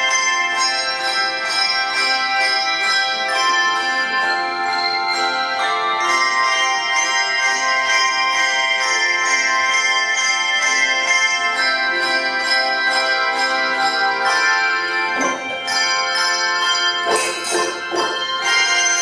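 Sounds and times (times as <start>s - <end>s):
handbells ringing in chords: 0.0s - 19.0s.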